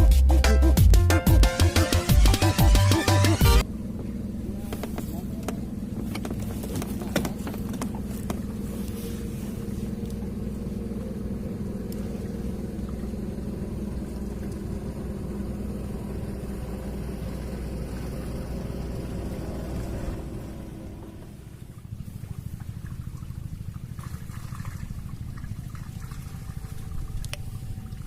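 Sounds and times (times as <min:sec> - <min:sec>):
small boat engine droning: 0:00.0 - 0:28.0.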